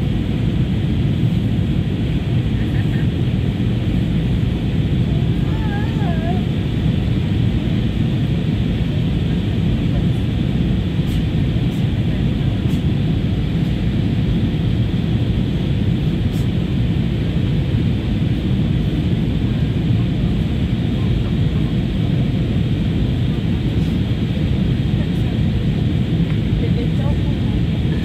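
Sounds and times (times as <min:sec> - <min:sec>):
jet engines: 0:00.0 - 0:28.0
rushing airflow: 0:00.0 - 0:28.0.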